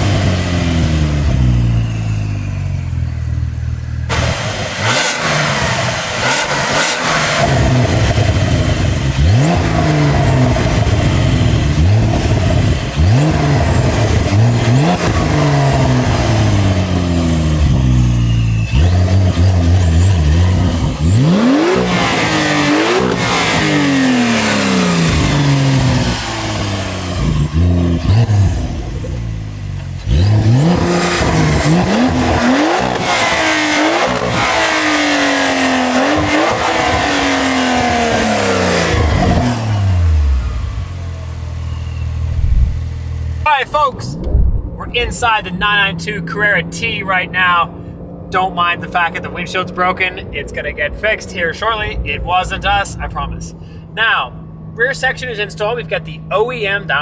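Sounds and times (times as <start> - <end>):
car engine accelerating hard: 0.0 - 53.7.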